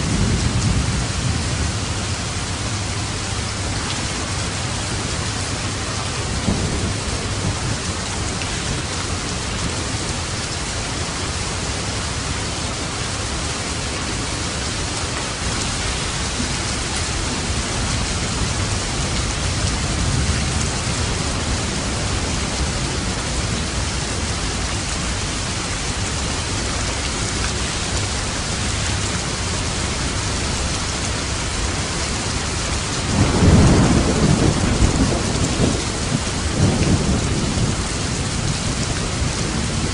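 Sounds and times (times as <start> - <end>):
thunder rumbling: 0.0 - 10.3, 13.6 - 27.2, 27.9 - 39.9
heavy rain hissing: 0.0 - 39.9.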